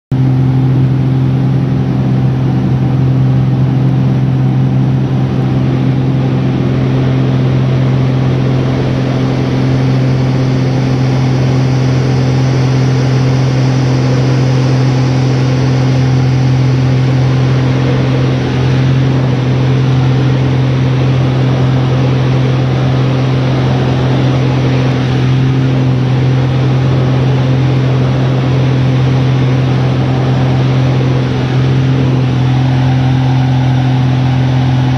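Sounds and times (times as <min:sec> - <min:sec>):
plane engine and propeller drone: 0:00.1 - 0:34.9.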